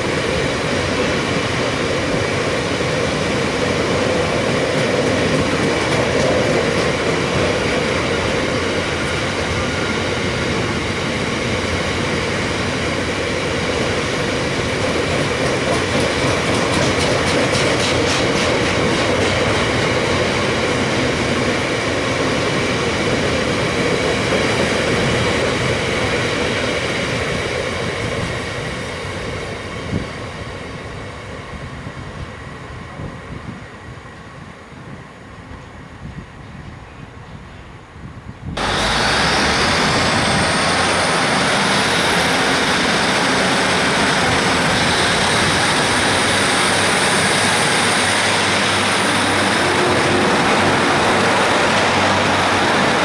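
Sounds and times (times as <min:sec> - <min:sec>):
freight train rolling past: 0:00.0 - 0:53.0
wheels roaring on rail: 0:00.0 - 0:53.0.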